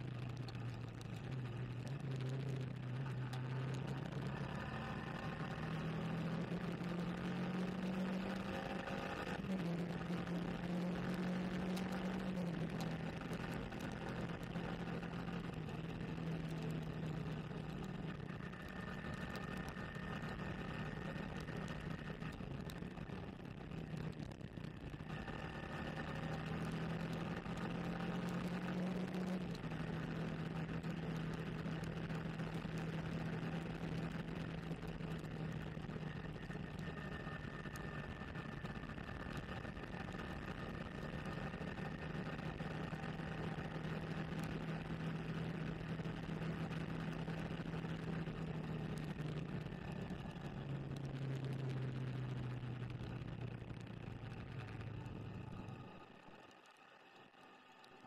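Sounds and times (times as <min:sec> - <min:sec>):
wet road noise: 0:00.0 - 0:07.5, 0:08.1 - 0:57.9
motorcycle engine running: 0:00.0 - 0:57.5.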